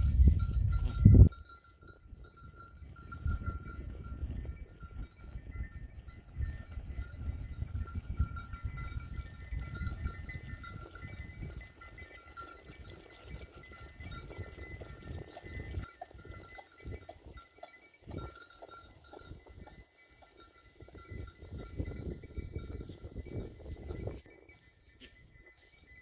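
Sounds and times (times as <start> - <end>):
animal bells ringing: 0.0 - 26.0
hooves clicking on stones: 0.0 - 26.0.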